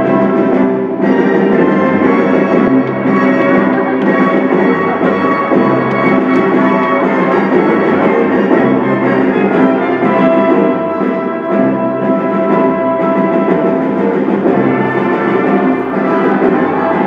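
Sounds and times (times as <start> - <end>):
live music over sound system: 0.0 - 17.0.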